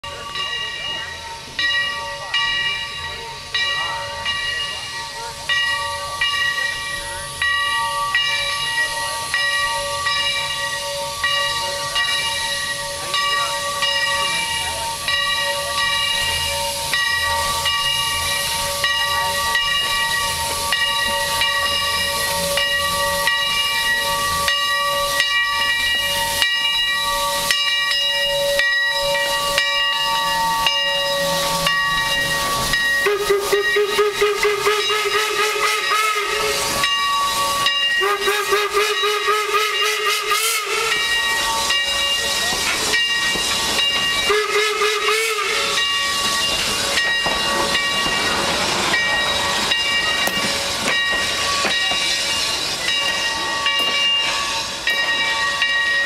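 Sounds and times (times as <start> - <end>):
steam locomotive bell ringing: 0.0 - 56.0
steam hissing: 0.1 - 56.0.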